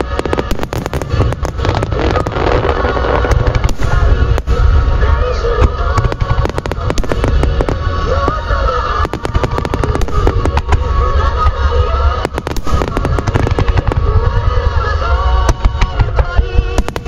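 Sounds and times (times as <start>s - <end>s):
fireworks bursting: 0.0s - 17.0s
music: 0.0s - 17.0s.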